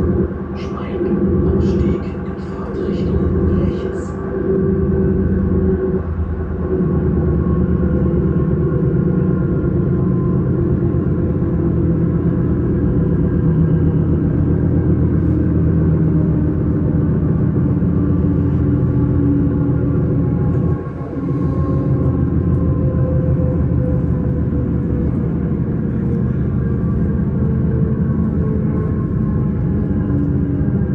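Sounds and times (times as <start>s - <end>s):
train rumble inside carriage: 0.0s - 30.9s.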